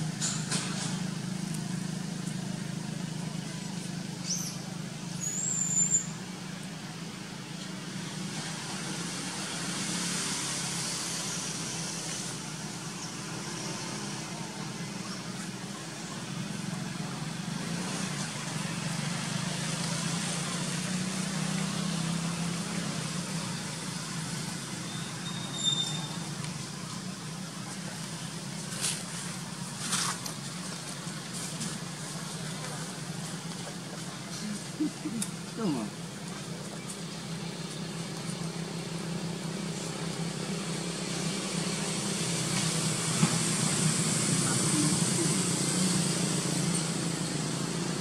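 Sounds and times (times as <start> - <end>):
broad background noise: 0.0 - 48.0
low engine-like hum: 0.0 - 48.0.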